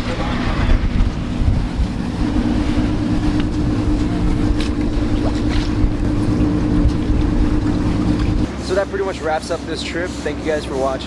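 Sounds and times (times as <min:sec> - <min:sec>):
boat engine drone: 0:00.0 - 0:11.0
rushing sea: 0:00.0 - 0:11.0
steady hum: 0:00.0 - 0:11.0
wind: 0:00.0 - 0:11.0.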